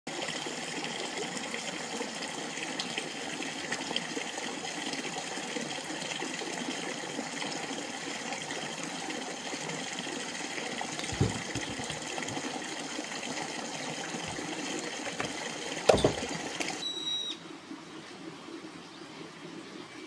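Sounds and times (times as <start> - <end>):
flowing water rushing: 0.1 - 20.0.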